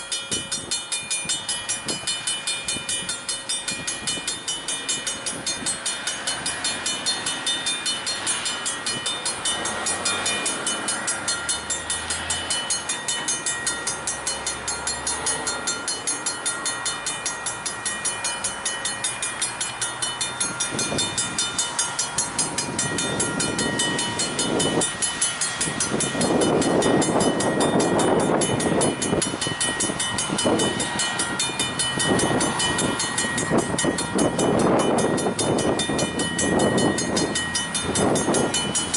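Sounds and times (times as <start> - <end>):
diesel locomotive rumbling: 0.0 - 38.9
railroad crossing bell ringing: 0.0 - 38.9.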